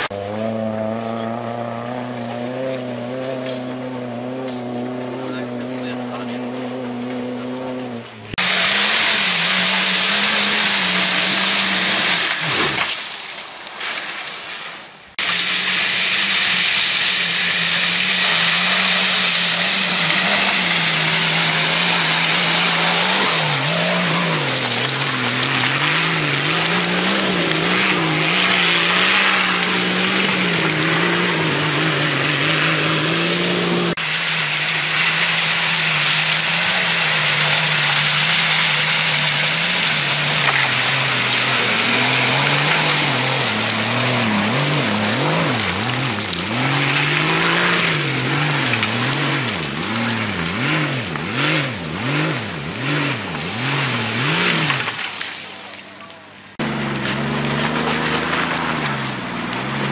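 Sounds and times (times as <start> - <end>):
off-road engine revving: 0.0 - 13.0, 15.1 - 59.9.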